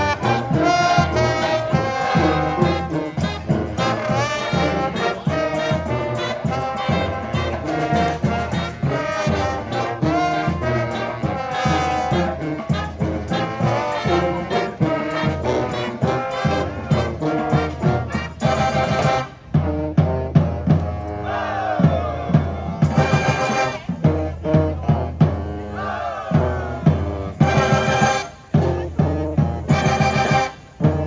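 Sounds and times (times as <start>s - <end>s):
drum beat: 0.0s - 21.0s, 21.6s - 25.5s, 26.3s - 31.0s
brass band playing: 0.0s - 31.0s.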